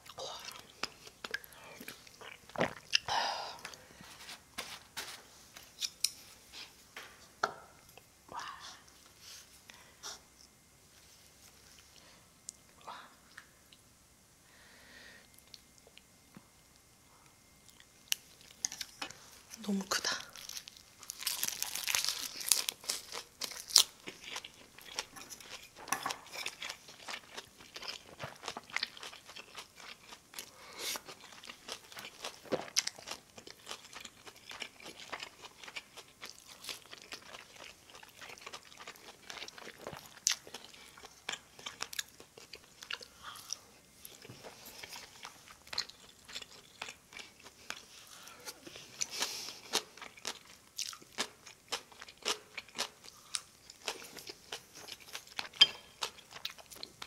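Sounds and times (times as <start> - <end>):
person chewing and crunching food: 0.0 - 7.0, 15.2 - 57.0.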